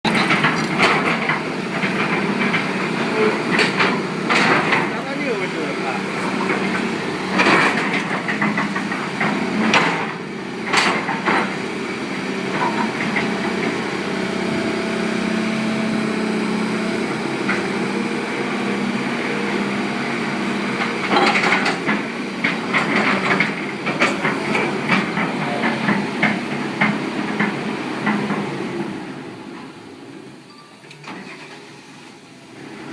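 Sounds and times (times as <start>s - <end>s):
excavator diesel engine idling: 0.0s - 32.9s.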